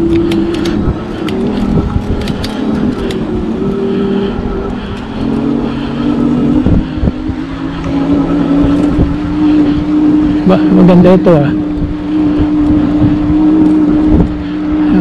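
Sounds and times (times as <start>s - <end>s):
electric motor whine: 0.0s - 15.0s
tyre and wind rumble: 0.0s - 15.0s.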